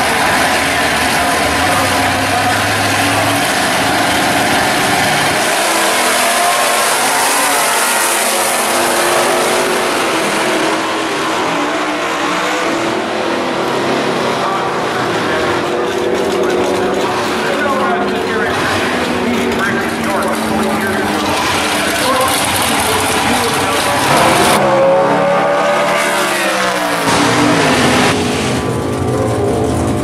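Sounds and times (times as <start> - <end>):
drag car engines accelerating: 0.0 - 30.0.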